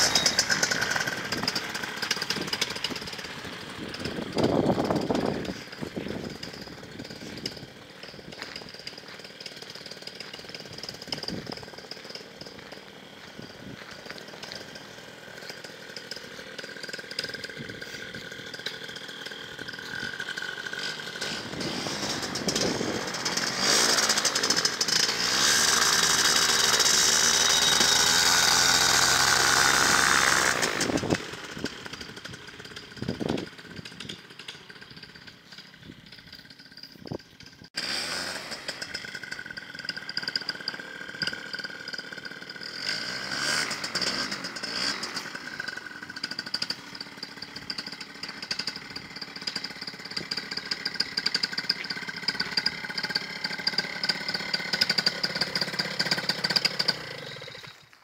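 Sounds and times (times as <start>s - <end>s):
small engine driving past: 0.0s - 58.0s.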